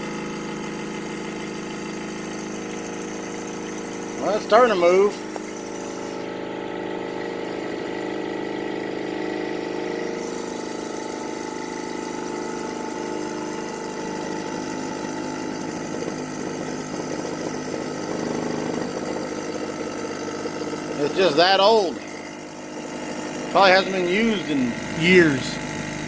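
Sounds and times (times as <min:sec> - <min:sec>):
air compressor humming: 0:00.0 - 0:26.0.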